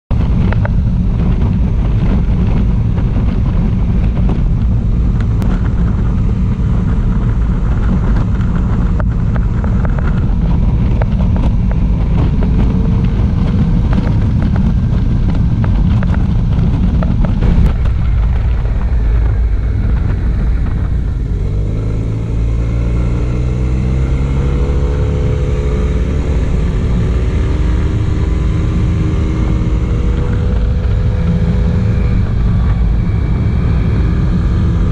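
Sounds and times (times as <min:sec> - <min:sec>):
wind rushing over microphone: 0:00.1 - 0:34.9
scooter engine running: 0:00.2 - 0:34.9.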